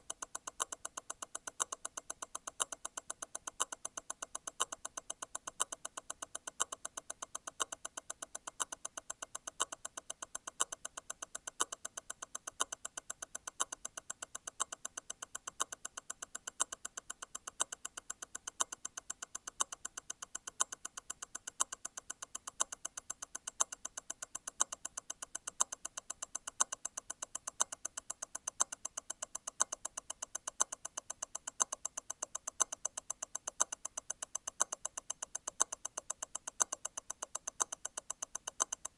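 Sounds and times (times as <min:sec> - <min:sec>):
watch ticking: 0:00.0 - 0:38.9.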